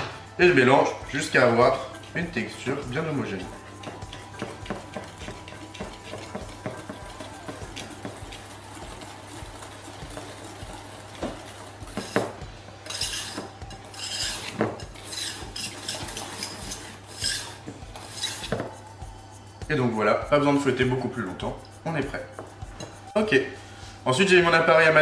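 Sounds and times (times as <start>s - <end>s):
whisk scraping metal bowl: 0.5s - 19.0s, 19.8s - 25.0s.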